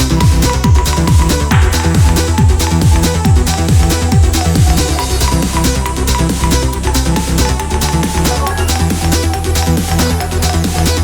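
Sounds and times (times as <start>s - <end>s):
electronic dance music: 0.0s - 11.0s
steady kick drum: 0.0s - 11.0s.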